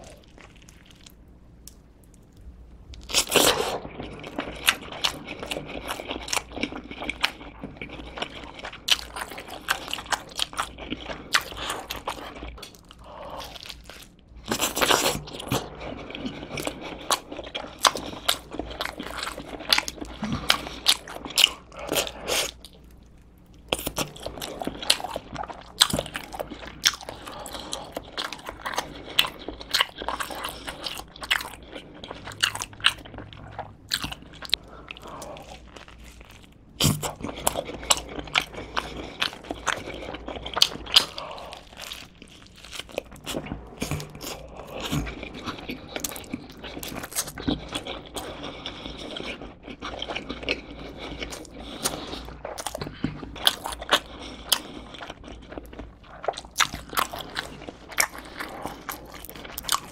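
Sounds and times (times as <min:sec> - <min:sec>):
crunchy wet chewing: 0:00.0 - 0:59.9.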